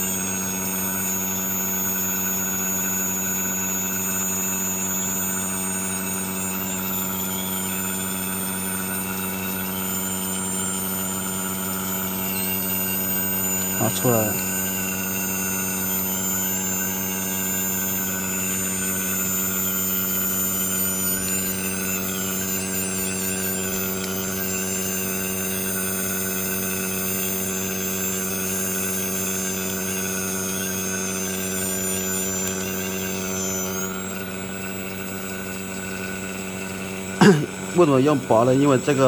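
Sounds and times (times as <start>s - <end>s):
electric machine hum: 0.0s - 39.0s.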